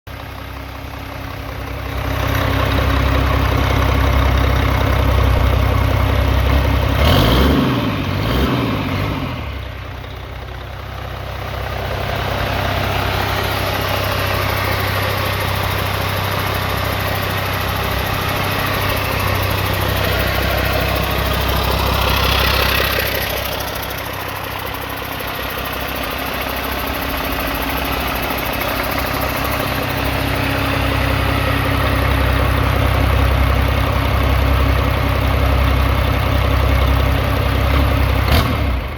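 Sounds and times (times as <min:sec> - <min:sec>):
diesel engine idling: 0:00.1 - 0:38.9.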